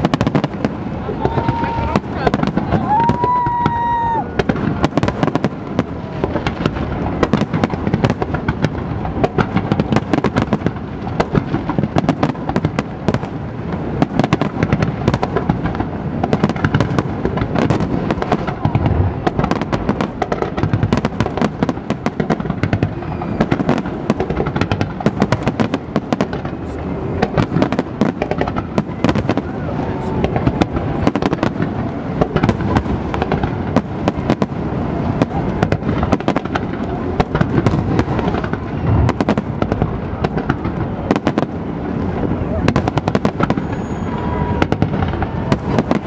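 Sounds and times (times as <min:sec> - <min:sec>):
fireworks bangs and crackles: 0:00.0 - 0:46.0.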